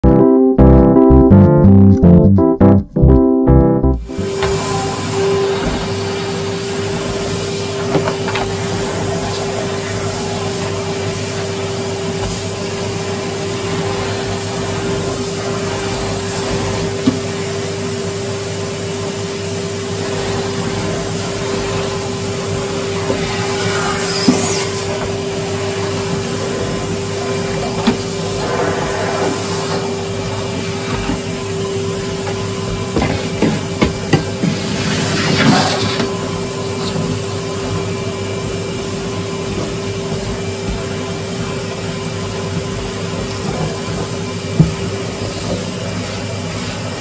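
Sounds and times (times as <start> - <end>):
vacuum cleaner running: 4.0 - 47.0.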